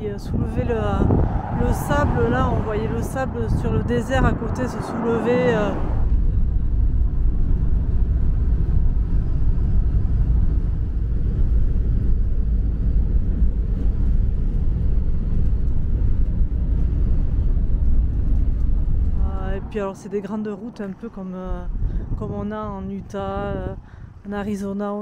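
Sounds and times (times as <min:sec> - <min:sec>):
engine and road noise rumble: 0:00.0 - 0:24.7.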